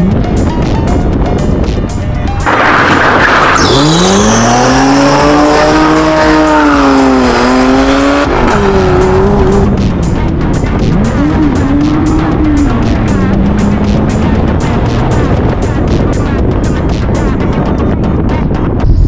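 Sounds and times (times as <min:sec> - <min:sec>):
car engine revving: 0:00.0 - 0:18.0
background music with beat: 0:00.0 - 0:19.0.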